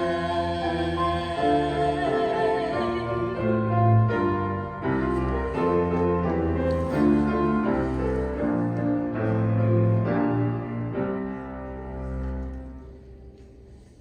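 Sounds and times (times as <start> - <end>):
instrumental musical accompaniment: 0.0 - 14.0.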